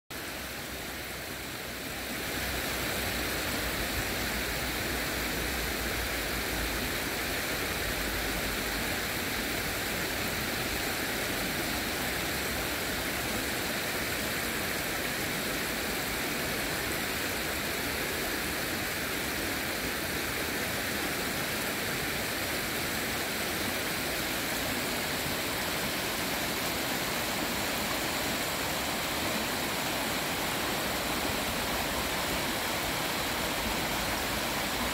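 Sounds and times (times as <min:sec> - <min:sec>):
stream running over rocks: 0:00.1 - 0:34.9.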